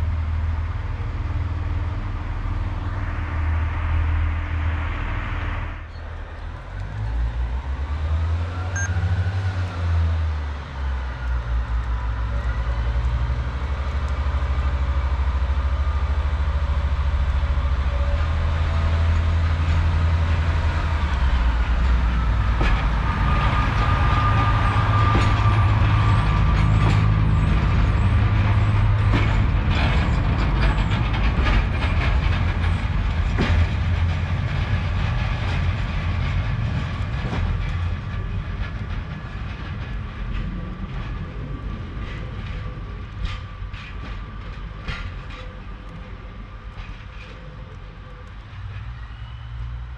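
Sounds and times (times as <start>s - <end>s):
diesel train engine rumble: 0.0s - 49.9s
train clicks and knocks: 6.3s - 49.9s.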